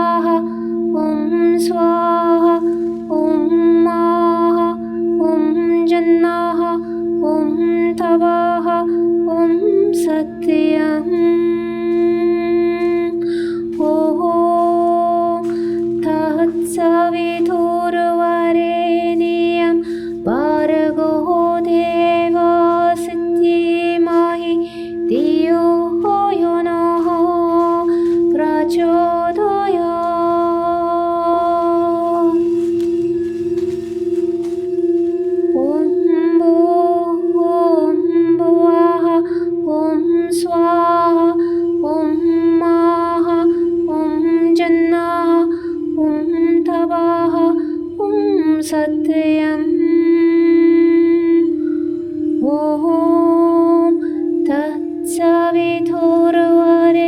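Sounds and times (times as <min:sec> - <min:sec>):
wordless singing: 0:00.0 - 0:51.8
low drone: 0:00.0 - 0:57.0.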